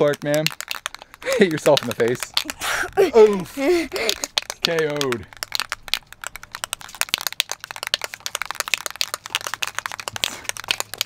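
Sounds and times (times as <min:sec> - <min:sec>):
spray can ball rattling: 0:00.0 - 0:11.0.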